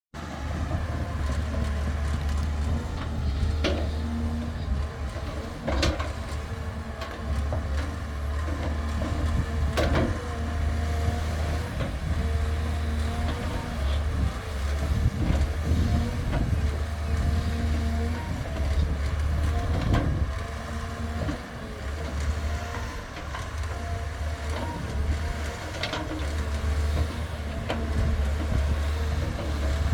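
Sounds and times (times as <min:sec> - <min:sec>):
heavy engine droning: 0:00.2 - 0:29.9.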